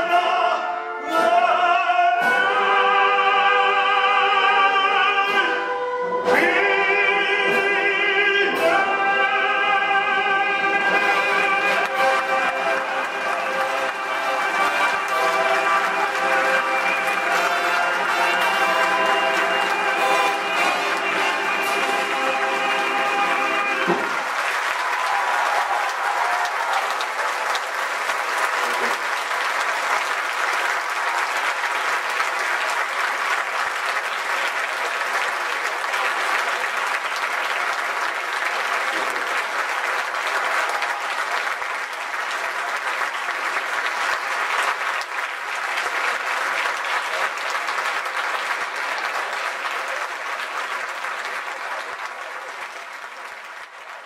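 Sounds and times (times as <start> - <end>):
audience applauding: 10.3 - 54.0.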